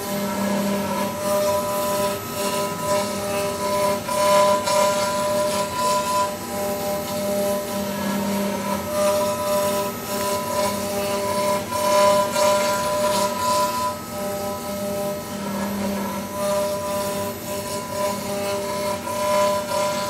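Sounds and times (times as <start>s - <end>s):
cutter rasping on wood: 0.0s - 20.0s
milling machine spindle whine: 0.0s - 20.0s.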